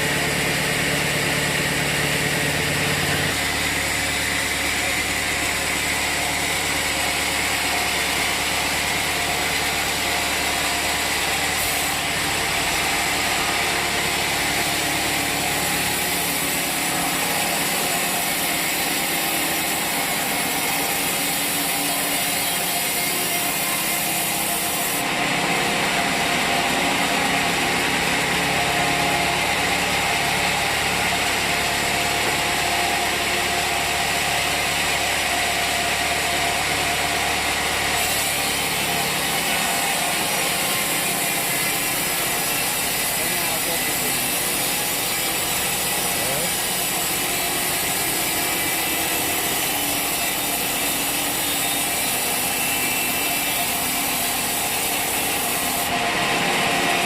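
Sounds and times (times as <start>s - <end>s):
sawmill engine and saw: 0.0s - 57.0s.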